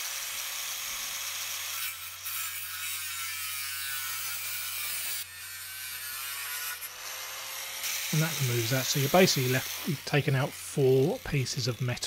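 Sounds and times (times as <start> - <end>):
angle grinder cutting metal: 0.0 - 12.0.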